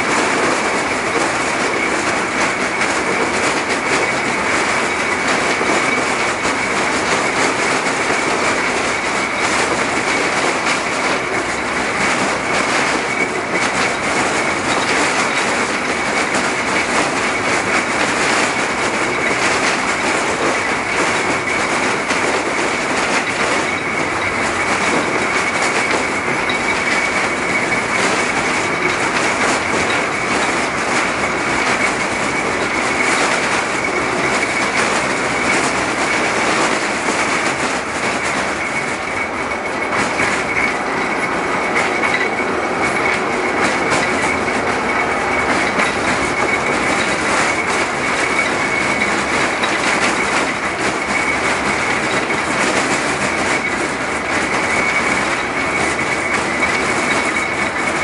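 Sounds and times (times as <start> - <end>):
clicks from rails: 0.0 - 58.0
tram rolling along track: 0.0 - 58.0.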